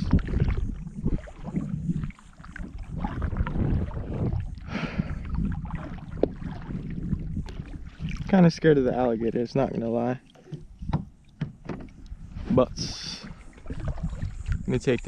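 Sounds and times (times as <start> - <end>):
paddle strokes splashing: 0.0 - 15.0
water washing along hull: 0.0 - 15.0.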